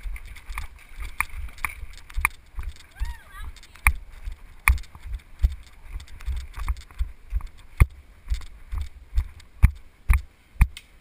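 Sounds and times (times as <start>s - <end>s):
footsteps jolting camera: 0.0s - 9.4s.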